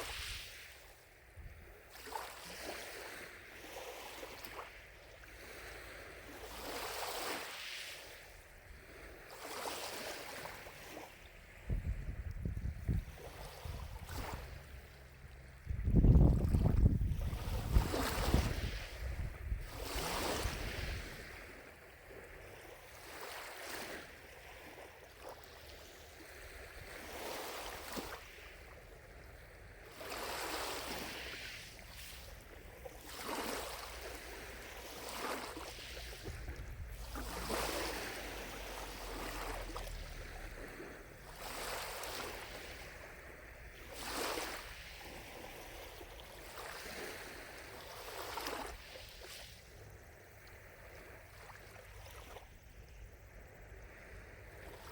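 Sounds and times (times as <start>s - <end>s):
lake waves lapping: 0.0s - 54.9s.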